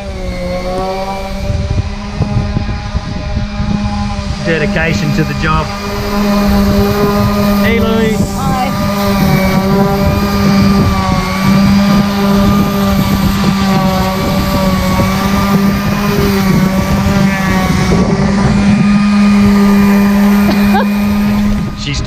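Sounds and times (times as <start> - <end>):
electric power sander running: 0.0 - 22.0.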